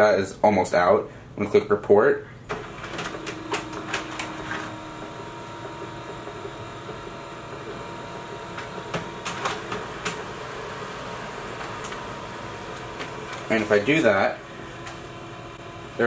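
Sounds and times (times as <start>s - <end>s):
laser printer humming: 2.5s - 16.0s.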